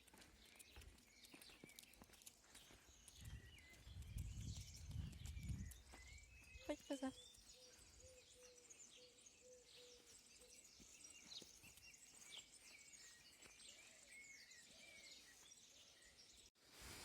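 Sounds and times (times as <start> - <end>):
faint distant birds chirping: 0.0 - 16.6.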